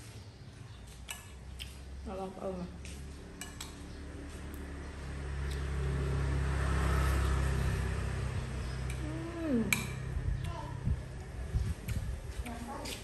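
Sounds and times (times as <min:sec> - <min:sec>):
vehicle engine passing by: 0:01.9 - 0:12.8.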